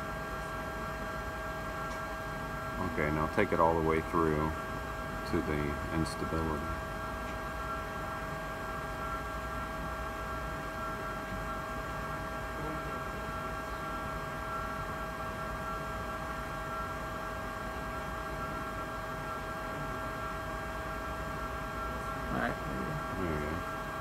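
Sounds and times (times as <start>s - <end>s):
electrical hum of lab equipment: 0.0s - 24.0s.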